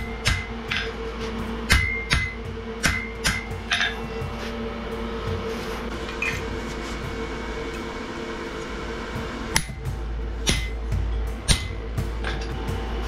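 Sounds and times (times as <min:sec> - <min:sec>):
hammer blow on hot steel: 0:00.0 - 0:13.0
steady low hum: 0:00.0 - 0:13.0.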